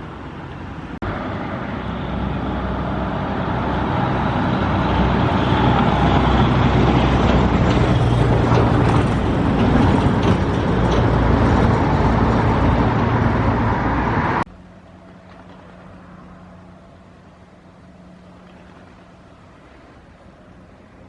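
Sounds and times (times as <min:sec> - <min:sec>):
loud motor rumble: 0:00.2 - 0:20.9.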